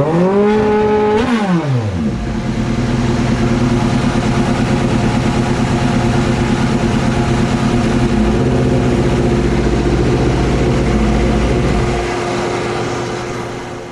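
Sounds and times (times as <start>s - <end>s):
motorcycle engine idling: 2.0s - 13.9s.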